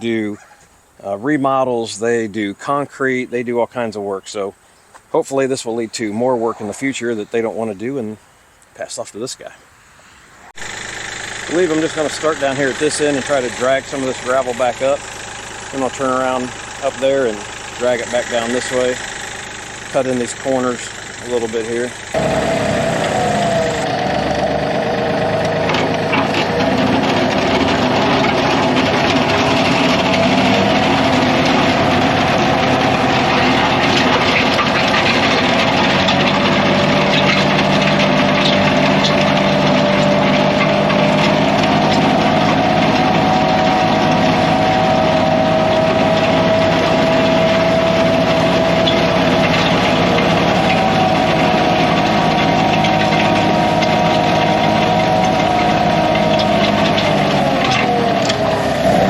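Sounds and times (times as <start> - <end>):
scraping gravel: 10.6 - 59.0
tractor diesel engine running: 10.6 - 59.0.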